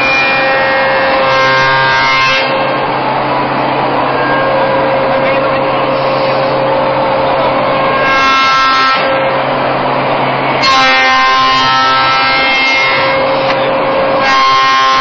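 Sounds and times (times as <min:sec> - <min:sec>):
bright many-toned whine: 0:00.0 - 0:15.0
machine whining: 0:00.0 - 0:15.0.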